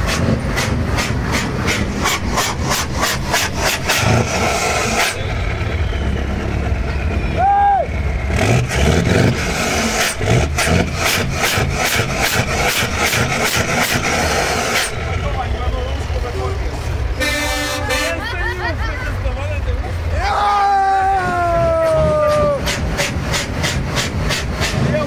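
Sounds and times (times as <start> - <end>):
truck engine droning: 0.0 - 25.0.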